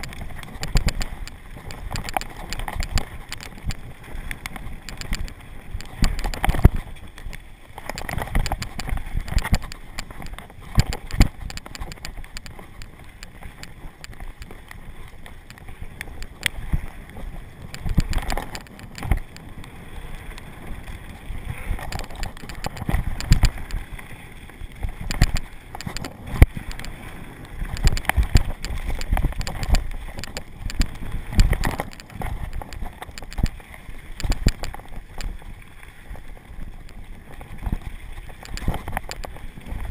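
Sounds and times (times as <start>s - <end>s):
bike knocking and rattling: 0.0s - 39.9s
bike tyres on dirt: 0.0s - 39.9s
wind on microphone: 0.0s - 39.9s.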